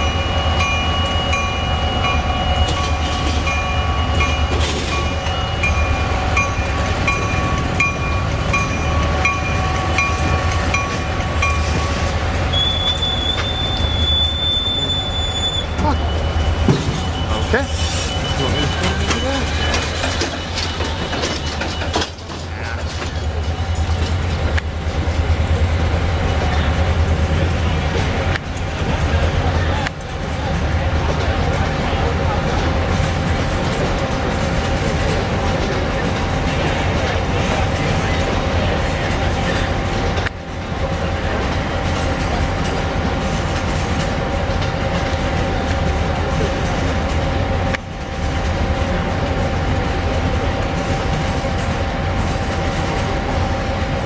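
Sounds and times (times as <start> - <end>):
diesel locomotive engine humming: 0.0 - 54.0
train wheels clicking over rail joints: 2.1 - 14.3, 18.4 - 54.0.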